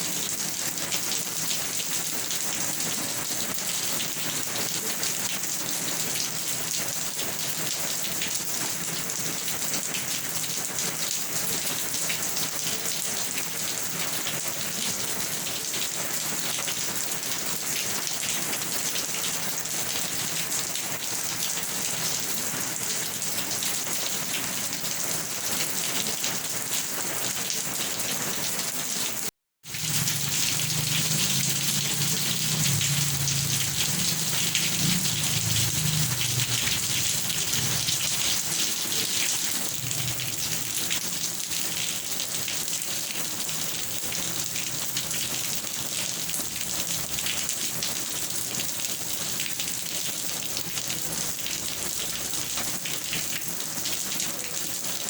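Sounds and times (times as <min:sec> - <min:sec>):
heavy rain falling on a surface: 0:00.0 - 0:55.0.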